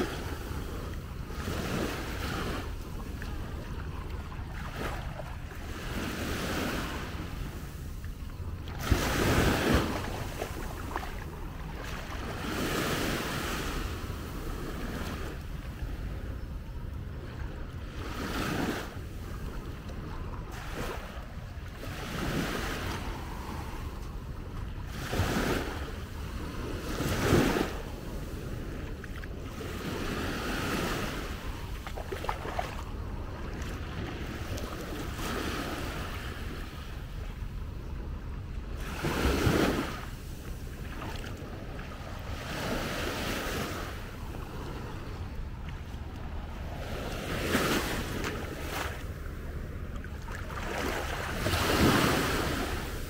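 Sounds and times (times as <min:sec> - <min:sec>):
small waves breaking on beach: 0:00.0 - 0:16.3, 0:17.2 - 0:53.0
wind rumble on microphone: 0:00.0 - 0:53.0.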